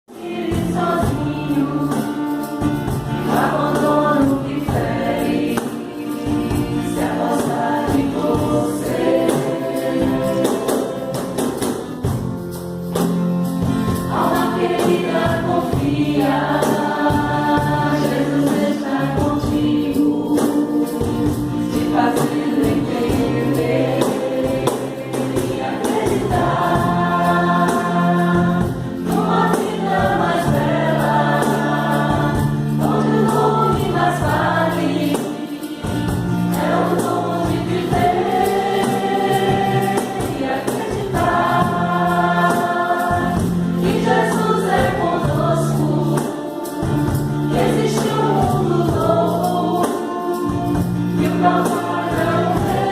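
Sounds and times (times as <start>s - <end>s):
acoustic guitar: 0.1s - 52.9s
group singing a devotional song: 0.1s - 52.9s
hand percussion beat: 0.1s - 52.9s
bass guitar: 0.4s - 52.9s.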